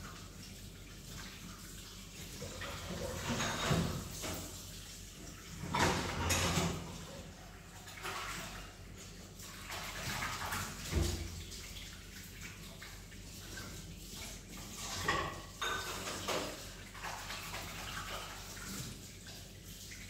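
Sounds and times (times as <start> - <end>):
water running and splashing: 0.0 - 20.0.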